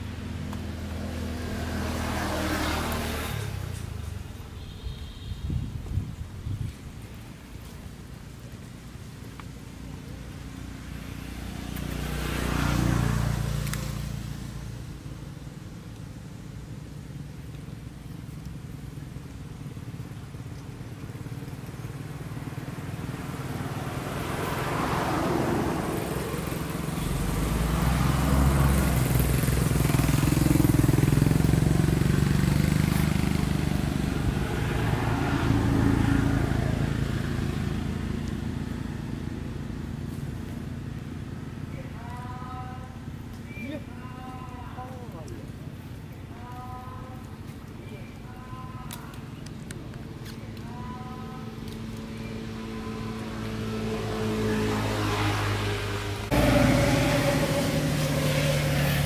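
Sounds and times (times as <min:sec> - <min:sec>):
vehicle engines passing: 0:00.0 - 0:59.0.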